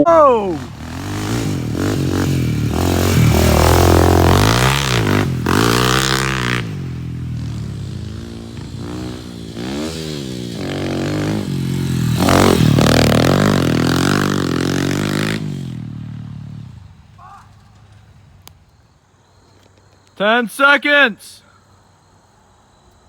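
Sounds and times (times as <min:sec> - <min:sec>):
atv engine revving: 0:00.0 - 0:18.5.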